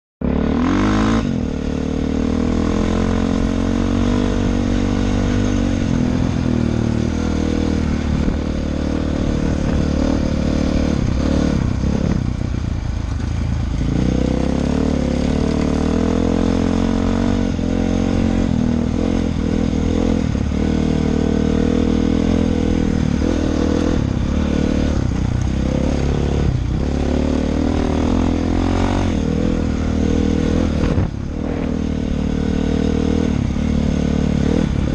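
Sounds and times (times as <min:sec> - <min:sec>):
dirt bike engine revving: 0:00.2 - 0:34.9.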